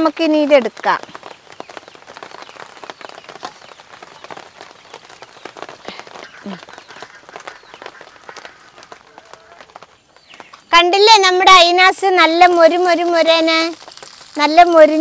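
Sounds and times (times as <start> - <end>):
hot oil sizzling and crackling: 0.0 - 15.0.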